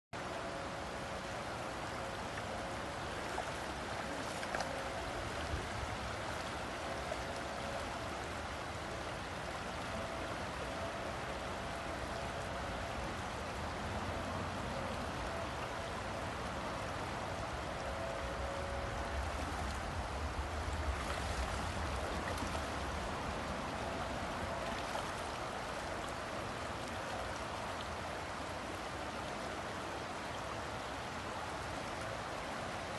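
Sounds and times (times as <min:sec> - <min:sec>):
river flowing over rocks: 0:00.2 - 0:32.9.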